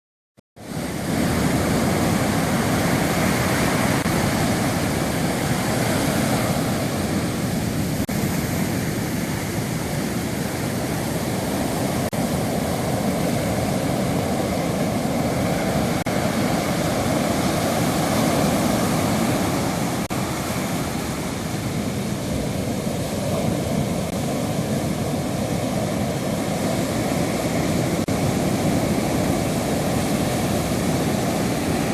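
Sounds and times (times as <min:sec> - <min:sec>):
waves breaking on a beach: 0:00.6 - 0:31.9.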